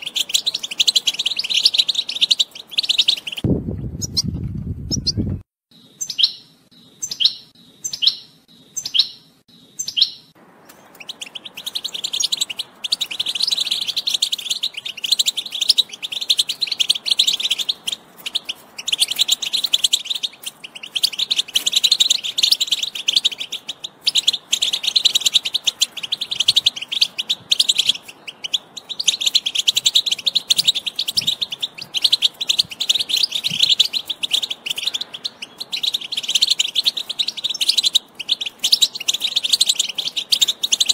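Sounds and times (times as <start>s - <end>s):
finch twittering song: 0.0s - 40.9s.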